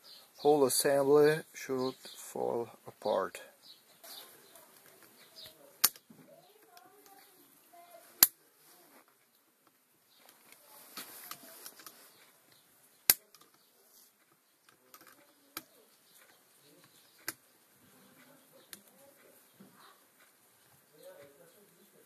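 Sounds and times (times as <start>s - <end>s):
rustling of parts and rag: 3.7s - 22.0s.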